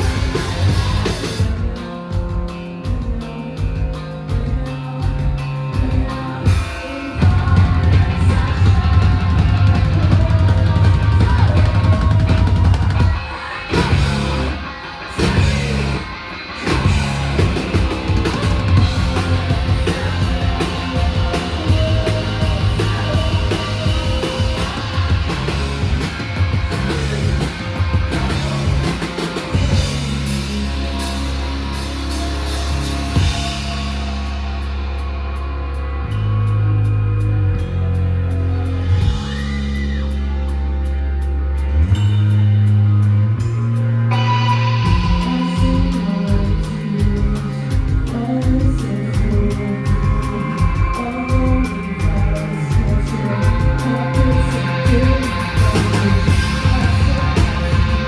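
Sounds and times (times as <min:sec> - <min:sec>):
rock band playing loud: 0:00.0 - 0:58.0.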